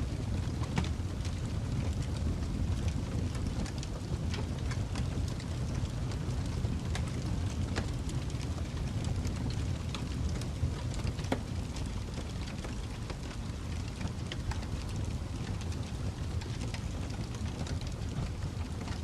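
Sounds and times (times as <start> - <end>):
fireplace crackling and popping: 0.1 - 19.0.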